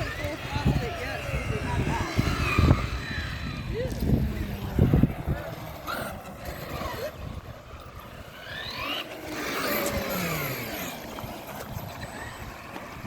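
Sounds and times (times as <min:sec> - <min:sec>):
rc truck motors whining: 0:00.0 - 0:13.0
tyres rumbling on pavement: 0:00.0 - 0:13.0.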